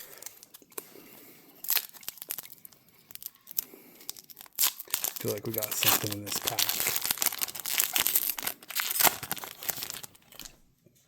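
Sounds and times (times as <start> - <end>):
foil wrapper crinkling and tearing: 0.0 - 0.9, 1.6 - 10.6.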